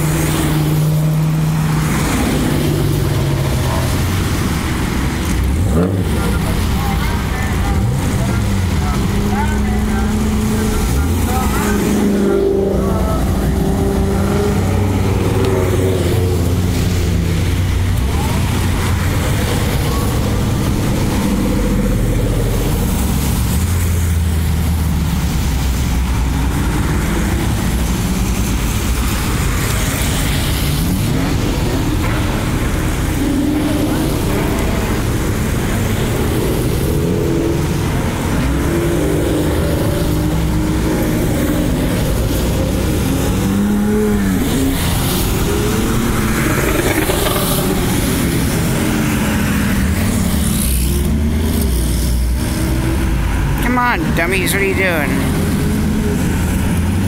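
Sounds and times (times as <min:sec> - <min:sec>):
engines revving: 0:00.0 - 0:57.0
sports cars driving past: 0:00.0 - 0:57.0.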